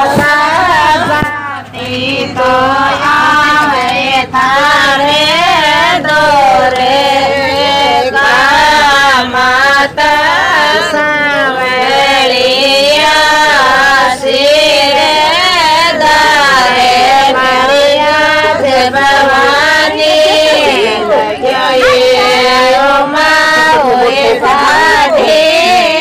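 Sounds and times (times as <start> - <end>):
woman singing devotional song: 0.0 - 26.0.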